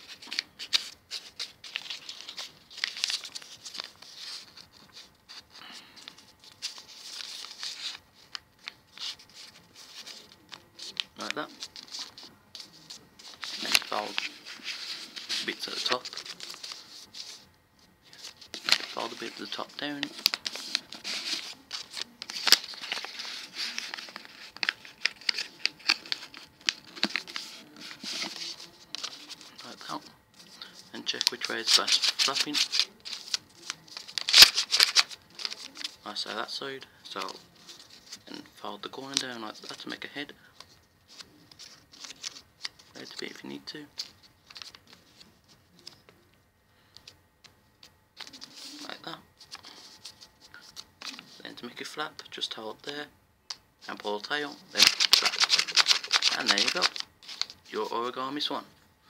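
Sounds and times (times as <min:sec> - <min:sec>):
paper folding and crinkling: 0:00.0 - 0:46.2, 0:46.9 - 0:53.0, 0:53.8 - 0:58.6.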